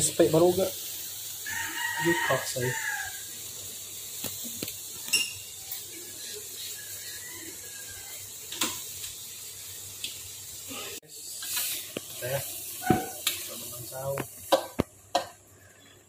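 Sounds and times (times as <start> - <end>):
sauce simmering in a wok: 0.0 - 16.0.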